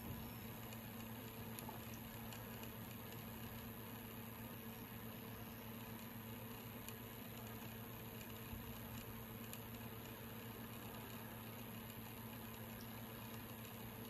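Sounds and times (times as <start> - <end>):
turntable motor hum: 0.0 - 14.0.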